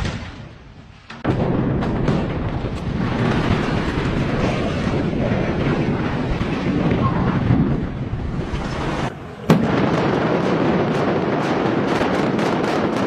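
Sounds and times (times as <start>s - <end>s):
demolition rumble and crashing debris: 0.0s - 13.0s.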